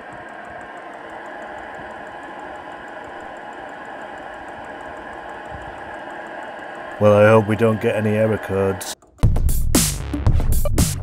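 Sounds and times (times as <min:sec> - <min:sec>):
air heater fan whirring: 0:00.0 - 0:09.2
fast regular ticking: 0:00.0 - 0:10.8.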